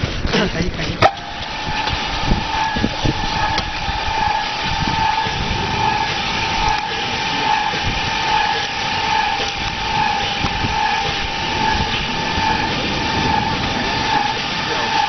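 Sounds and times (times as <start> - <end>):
machine drive whine: 0.0 - 15.0
rumbling with low thumps: 0.0 - 15.0.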